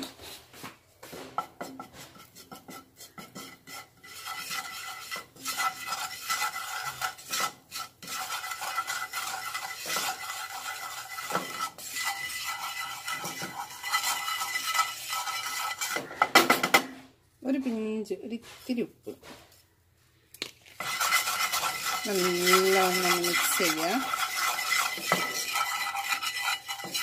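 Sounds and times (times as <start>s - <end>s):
wooden spatula scraping frying pan: 0.0s - 19.7s, 20.7s - 27.0s.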